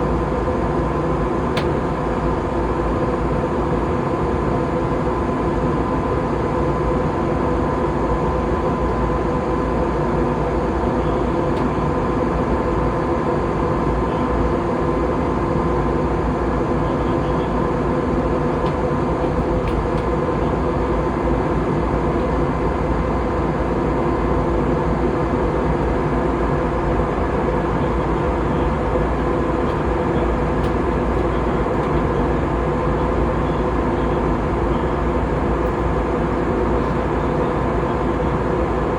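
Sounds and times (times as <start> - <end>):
jet cabin engine drone: 0.0 - 38.9.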